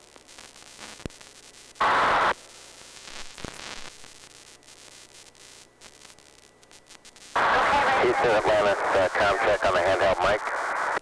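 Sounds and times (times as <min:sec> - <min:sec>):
loud static burst: 0:00.0 - 0:11.0
radio static hiss and crackle: 0:00.0 - 0:11.0.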